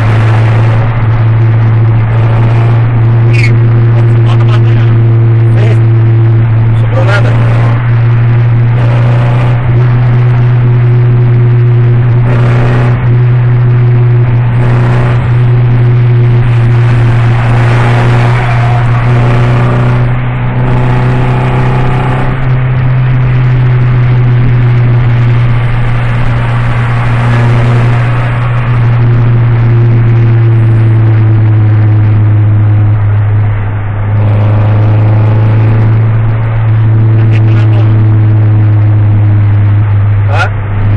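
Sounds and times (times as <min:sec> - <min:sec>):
car engine and exhaust drone: 0:00.0 - 0:40.9.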